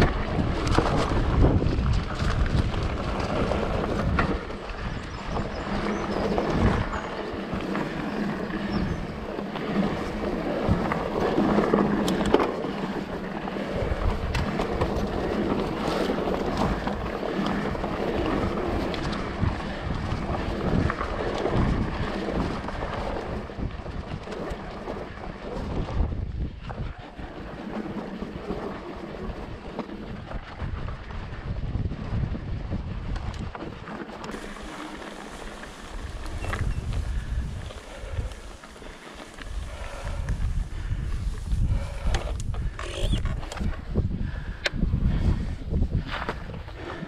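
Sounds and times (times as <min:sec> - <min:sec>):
bike rattling: 0:00.0 - 0:47.0
bike tyres rumbling: 0:00.0 - 0:47.0
wind buffeting microphone: 0:00.0 - 0:47.0.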